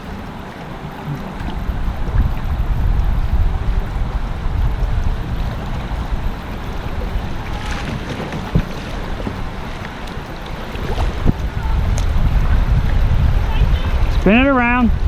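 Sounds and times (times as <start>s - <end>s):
paddle splashes: 0.0s - 14.8s
running water: 0.0s - 15.0s
wind buffeting microphone: 0.0s - 15.0s.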